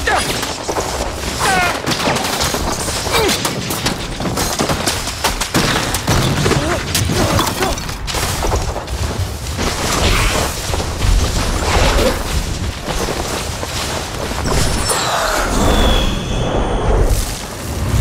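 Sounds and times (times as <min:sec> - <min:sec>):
sharp cracking blasts and booms: 0:00.0 - 0:18.0.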